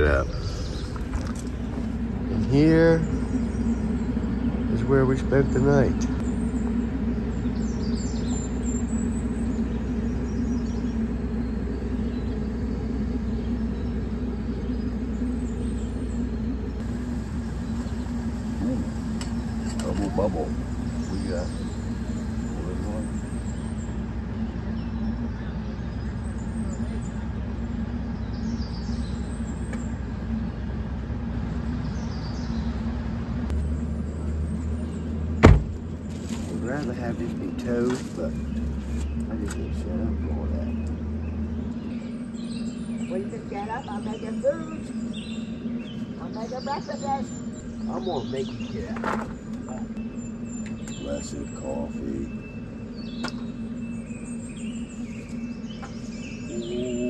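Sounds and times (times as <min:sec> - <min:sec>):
faint bird chirps: 0:00.0 - 0:30.6, 0:36.0 - 0:57.0
deeper hum: 0:00.0 - 0:57.0
motor drone: 0:00.0 - 0:57.0
vehicle engine idling: 0:00.0 - 0:57.0.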